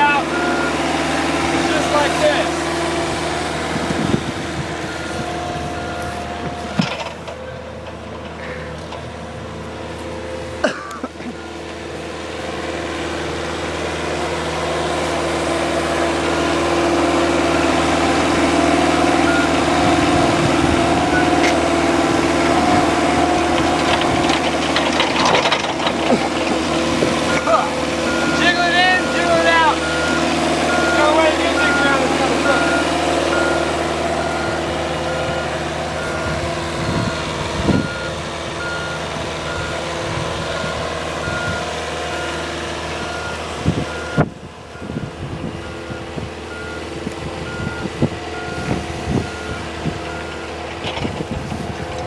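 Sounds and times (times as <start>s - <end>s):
forklift engine running: 0.0s - 52.0s.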